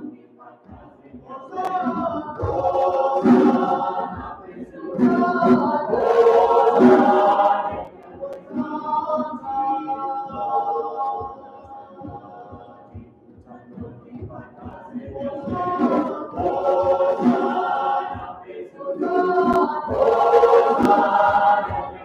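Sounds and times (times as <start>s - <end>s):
choir singing a hymn: 0.0s - 22.0s
djembe beating: 1.8s - 9.4s, 12.0s - 22.0s.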